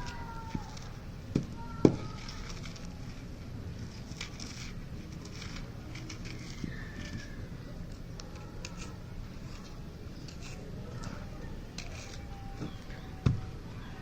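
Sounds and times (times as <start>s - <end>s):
gritty rustle of crumbling cement: 0.0s - 13.2s.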